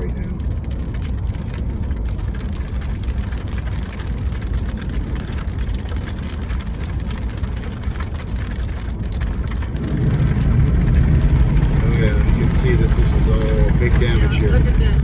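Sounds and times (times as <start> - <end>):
car road rumble: 0.0 - 15.0
fine crackle: 0.0 - 15.0.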